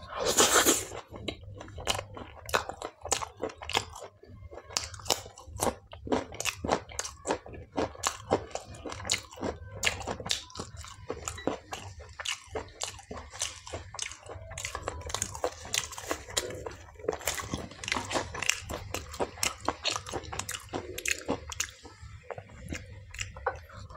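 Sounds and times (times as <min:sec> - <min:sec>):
person chewing crunchy food: 0:00.0 - 0:23.9.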